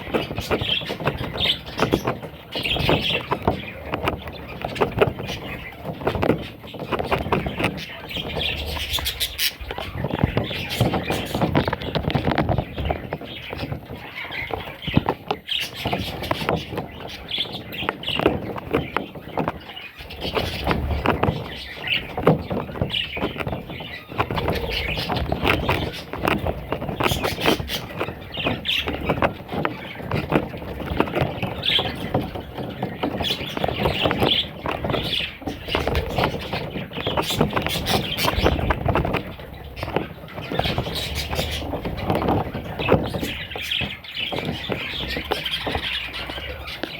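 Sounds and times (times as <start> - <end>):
budgerigars chirping and squealing: 0.0 - 46.9.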